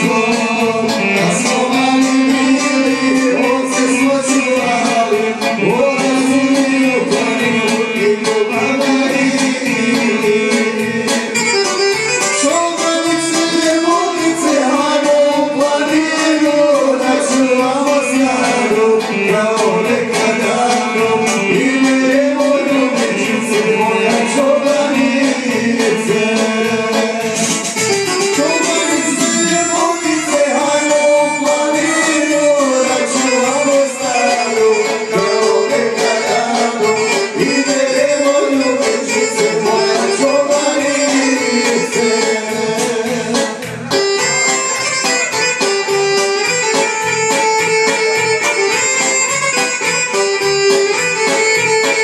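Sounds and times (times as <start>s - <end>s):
person singing folk song: 0.0s - 52.0s
string instruments with fast beat: 0.0s - 52.0s.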